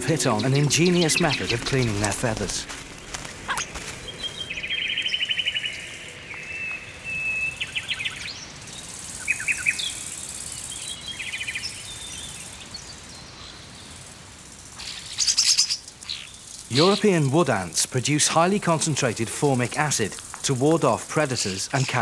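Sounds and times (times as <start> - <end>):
small birds trilling and chirping: 0.0 - 22.0
steady outdoor hiss: 0.0 - 22.0.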